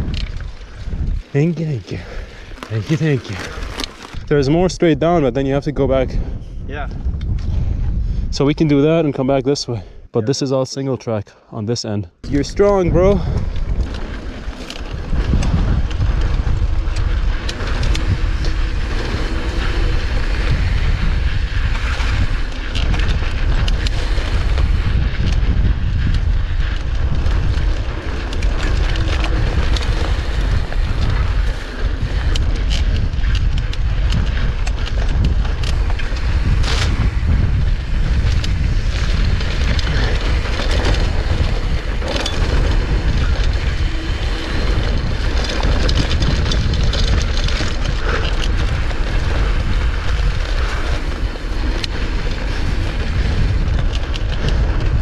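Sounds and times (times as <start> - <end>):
bike tyre rumble on dirt: 0.0 - 9.3, 12.2 - 55.0
wind buffeting microphone: 0.0 - 10.1, 12.2 - 55.0.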